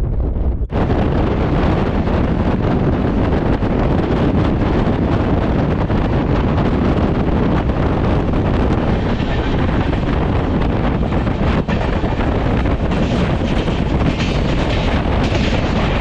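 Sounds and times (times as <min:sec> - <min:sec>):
train running on track: 0:00.0 - 0:16.0
wind rushing over microphone: 0:00.0 - 0:16.0.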